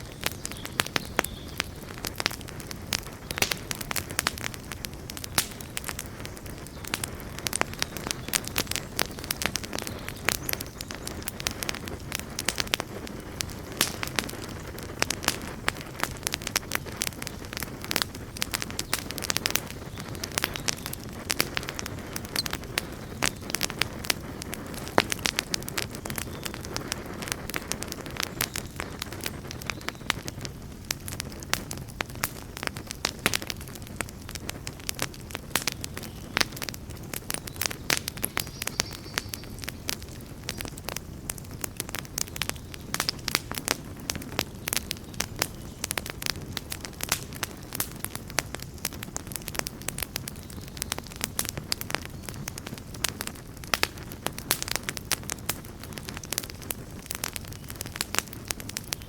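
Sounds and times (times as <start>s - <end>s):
low rushing flames: 0.0s - 59.0s
wood crackling and popping: 0.0s - 59.0s.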